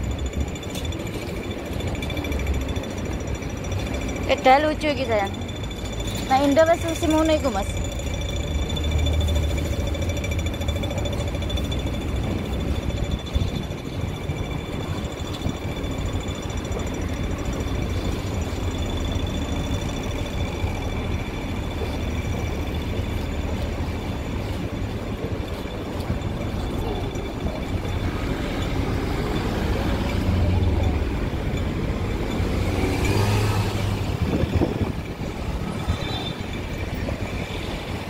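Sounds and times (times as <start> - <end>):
street traffic rumble: 0.0 - 38.0
thin high-pitched tones: 0.0 - 38.0.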